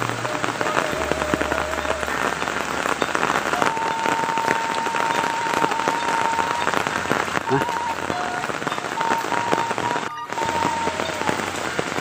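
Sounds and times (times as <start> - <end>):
rain falling on leaves and roofs: 0.0 - 12.0.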